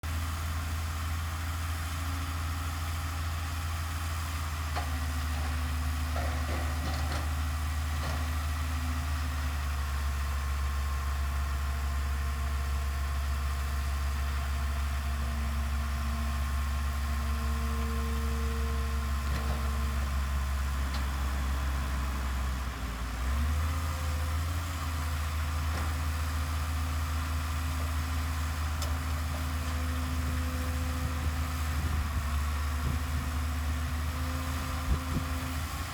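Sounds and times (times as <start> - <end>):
heavy diesel machinery running: 0.0 - 35.9.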